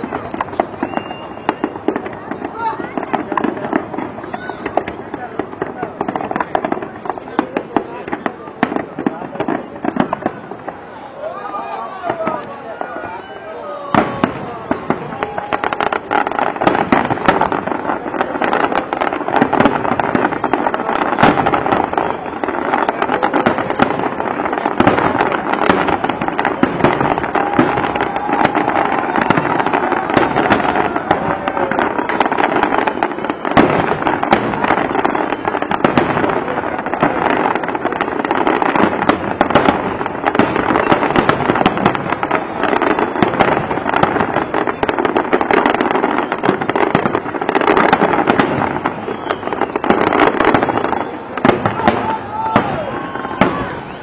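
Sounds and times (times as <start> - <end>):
fireworks bursts and crackles: 0.0 - 54.0.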